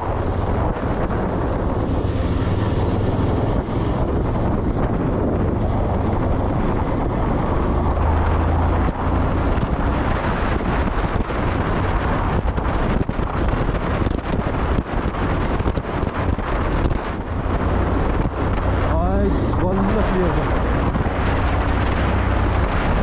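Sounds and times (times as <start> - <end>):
vehicle rumble: 0.0 - 23.0
wind buffeting microphone: 0.0 - 23.0.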